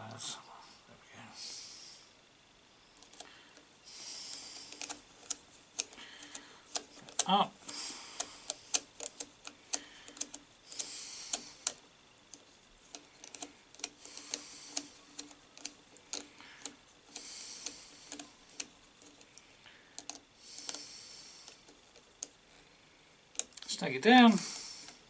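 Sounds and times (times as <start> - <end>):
soft hisses: 0.0 - 25.0.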